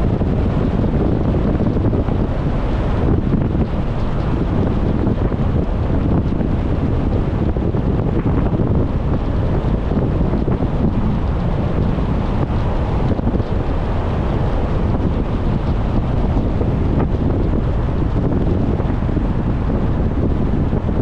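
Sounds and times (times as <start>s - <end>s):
wind and road noise rumble: 0.0s - 21.0s.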